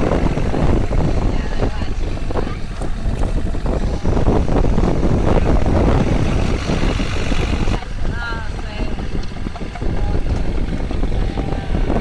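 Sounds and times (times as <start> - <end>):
excavator engine rumbling: 0.0 - 12.0.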